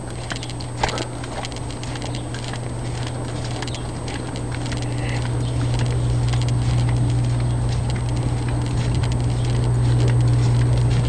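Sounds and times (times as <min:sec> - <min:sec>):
footsteps on sandy trail: 0:00.0 - 0:11.0
steady low hum: 0:00.0 - 0:11.0.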